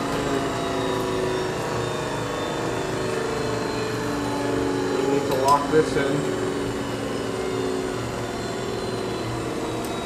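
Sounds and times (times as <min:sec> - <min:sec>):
grinder motors humming: 0:00.0 - 0:10.0.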